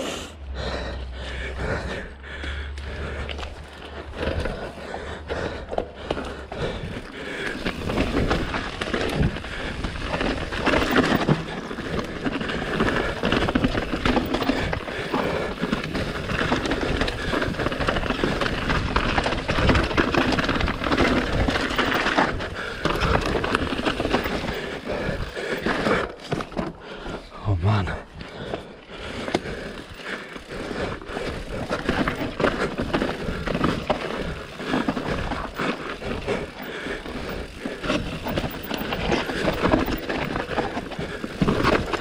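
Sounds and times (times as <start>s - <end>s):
mountain bike rolling over trail: 0.6s - 42.0s.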